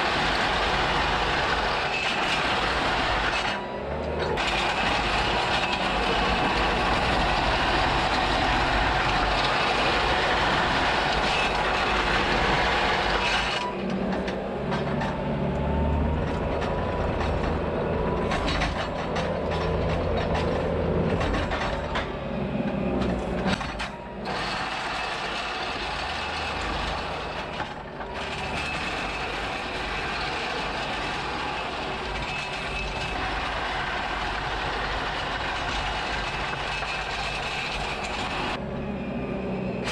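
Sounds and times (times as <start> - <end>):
track and machine noise: 0.0 - 39.9
track loader diesel engine: 0.0 - 39.9.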